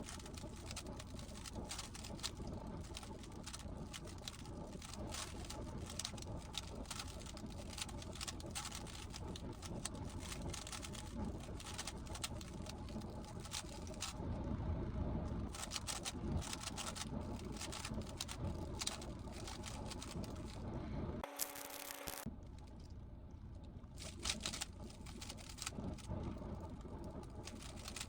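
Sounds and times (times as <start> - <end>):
low background rumble: 0.0 - 21.3, 22.2 - 28.0.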